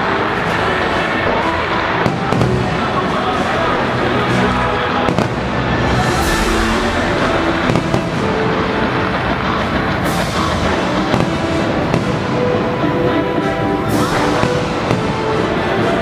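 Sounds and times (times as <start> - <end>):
loud music with sustained tones: 0.0 - 16.0.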